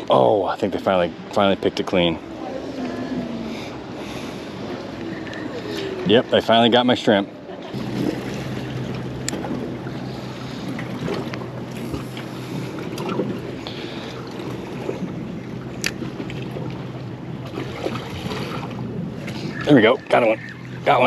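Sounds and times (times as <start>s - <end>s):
steady low hum: 0.0s - 21.0s
water lapping against hull: 0.0s - 21.0s.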